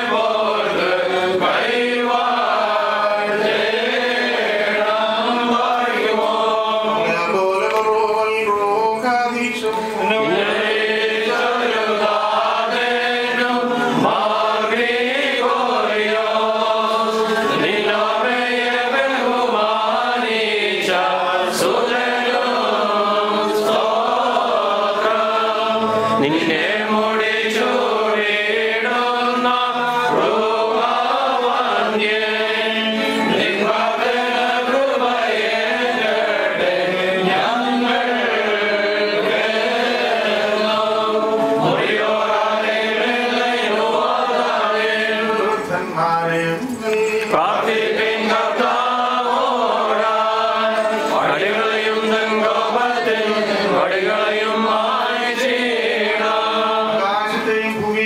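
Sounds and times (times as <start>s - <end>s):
group of men chanting a hymn: 0.0s - 46.4s, 47.3s - 58.0s.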